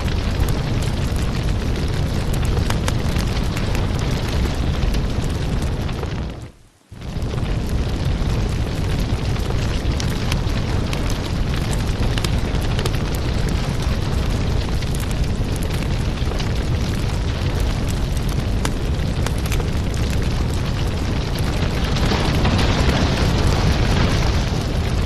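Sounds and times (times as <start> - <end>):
flame rushing: 0.0 - 25.0
wood crackling and popping: 0.0 - 25.0.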